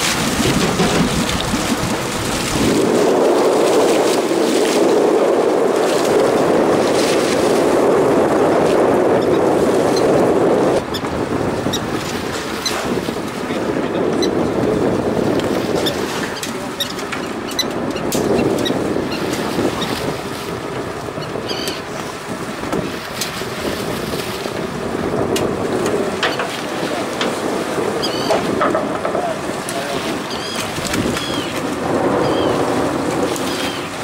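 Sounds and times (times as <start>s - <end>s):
water against boat hull: 0.0s - 34.0s
wind on microphone: 0.0s - 34.0s.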